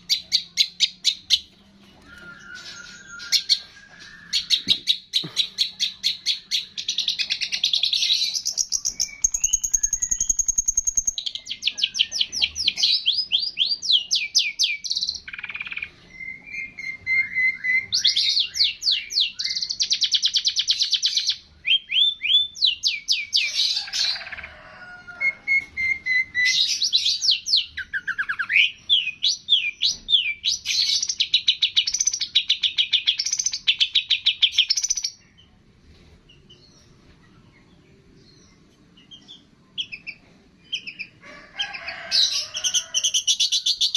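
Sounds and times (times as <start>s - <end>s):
songbird chirps and trills: 0.0s - 43.9s.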